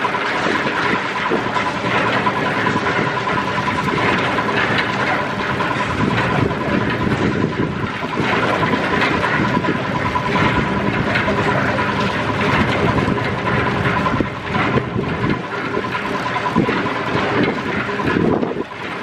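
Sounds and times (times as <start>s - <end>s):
machinery rumbling with thin whine: 0.0s - 19.0s.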